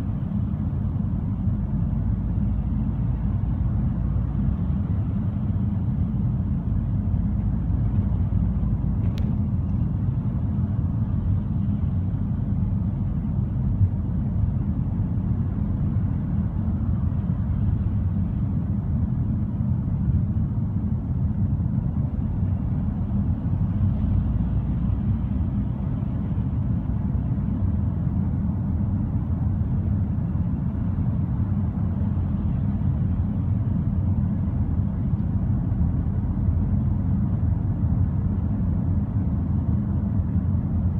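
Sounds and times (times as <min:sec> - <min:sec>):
car interior road rumble: 0:00.0 - 0:40.9.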